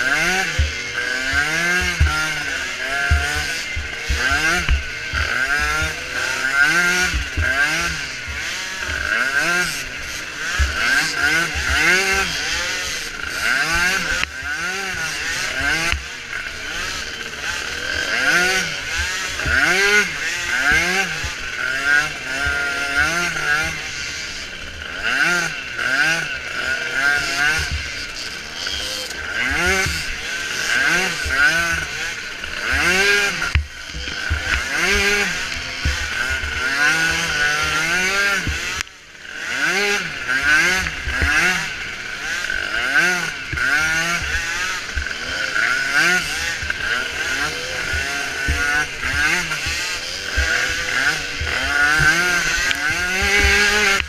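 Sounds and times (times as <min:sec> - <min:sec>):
small atv engine revving: 0:00.0 - 0:54.0.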